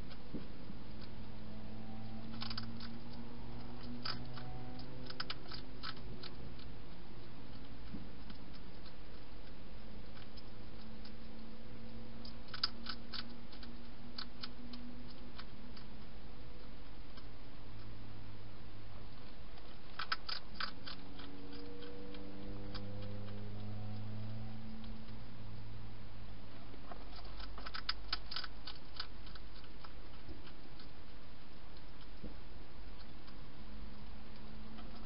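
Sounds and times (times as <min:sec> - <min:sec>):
hedgehog crunching dry food: 0:00.0 - 0:35.0
steady low hum: 0:00.0 - 0:35.0.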